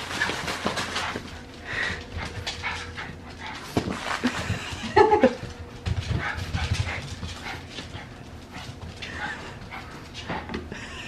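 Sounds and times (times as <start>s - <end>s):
paws scrabbling on tile: 0.0s - 11.0s.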